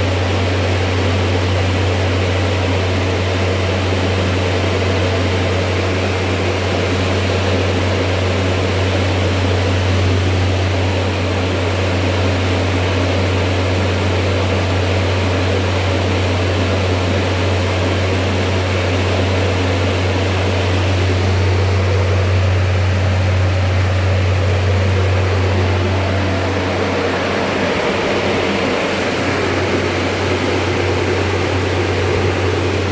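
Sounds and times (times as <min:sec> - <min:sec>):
fan air noise: 0:00.0 - 0:32.9
refrigeration unit humming: 0:00.0 - 0:32.9.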